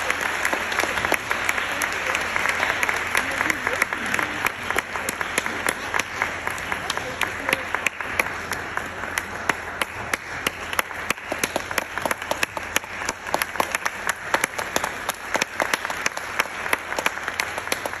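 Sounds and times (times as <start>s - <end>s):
audience applauding: 0.0s - 18.0s
sharp close claps: 0.0s - 18.0s.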